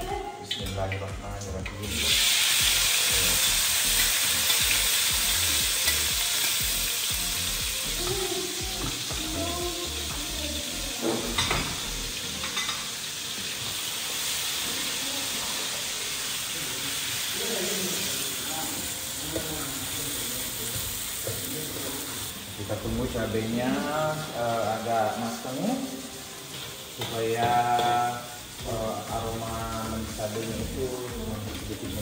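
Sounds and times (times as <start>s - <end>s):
chili paste sizzling in hot oil: 1.7s - 32.0s.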